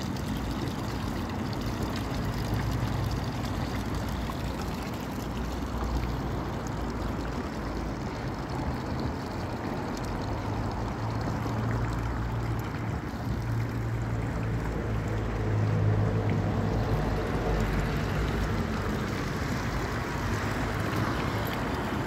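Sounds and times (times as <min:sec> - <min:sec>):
street traffic noise: 0:00.0 - 0:22.0
vehicle engine low hum: 0:00.0 - 0:22.0.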